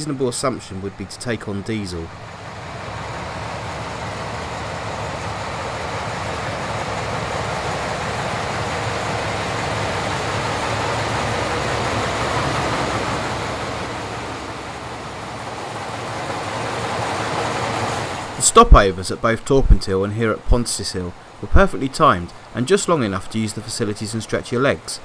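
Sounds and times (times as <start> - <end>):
diesel locomotive running: 0.0 - 25.0.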